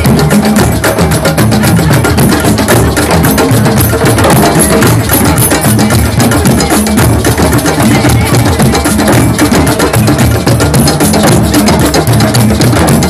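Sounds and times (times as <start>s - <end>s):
hand drums playing fast rhythm: 0.0s - 13.0s.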